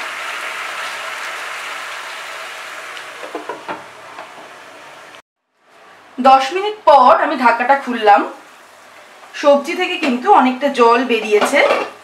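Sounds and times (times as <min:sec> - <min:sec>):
vegetables sizzling in oil: 0:00.0 - 0:05.2, 0:05.8 - 0:12.0.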